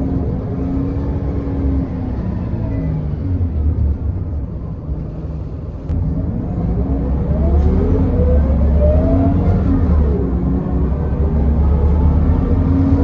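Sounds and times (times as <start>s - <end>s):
bus engine accelerating: 0.0s - 13.0s.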